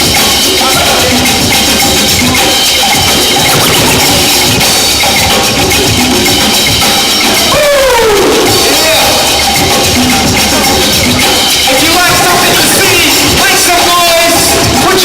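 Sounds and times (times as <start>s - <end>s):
loud music with percussive beat: 0.0s - 15.0s.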